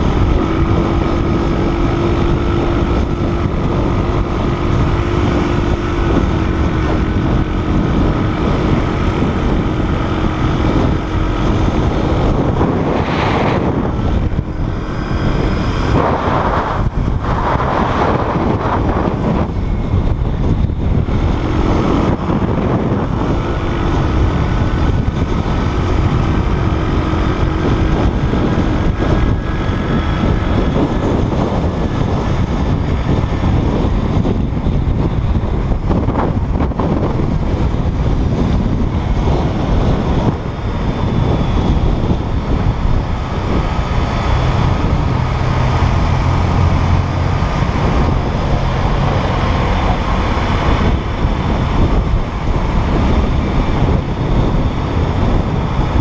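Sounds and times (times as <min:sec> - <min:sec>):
motorbike engine noise: 0:00.0 - 0:56.0
passing cars and motorbikes: 0:00.0 - 0:56.0
wind buffeting microphone: 0:00.0 - 0:56.0.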